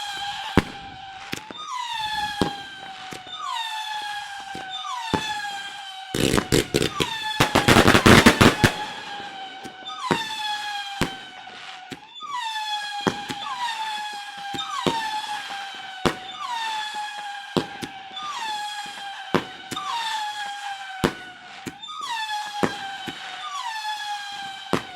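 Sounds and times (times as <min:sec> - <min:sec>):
fireworks crackling bangs: 0:00.0 - 0:24.9
fireworks whistling: 0:00.0 - 0:24.9.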